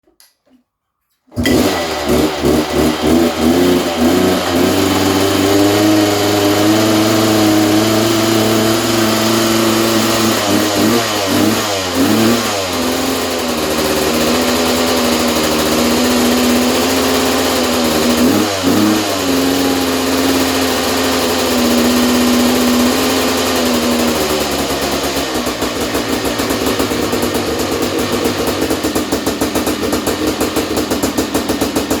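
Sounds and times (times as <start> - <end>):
two-stroke motorcycle engine running: 1.4 - 32.0.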